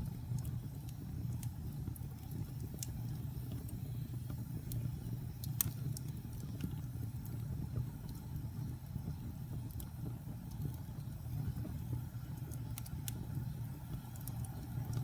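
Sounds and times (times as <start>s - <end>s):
burning wood crackling and popping: 0.0s - 15.0s
fire flames rumbling: 0.0s - 15.0s.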